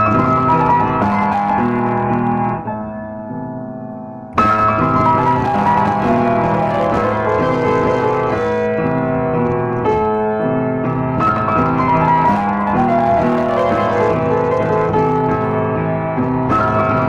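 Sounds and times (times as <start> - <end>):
piano playing a ballad: 0.0 - 17.0.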